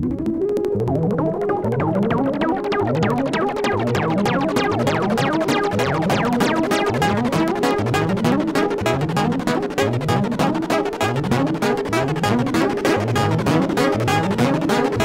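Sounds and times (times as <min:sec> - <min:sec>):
synthesizer plucky note sequence: 0:00.0 - 0:15.0.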